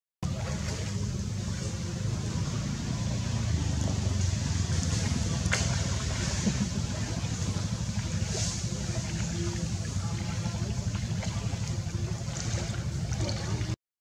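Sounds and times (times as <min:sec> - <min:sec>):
low rumble: 0:00.3 - 0:13.8.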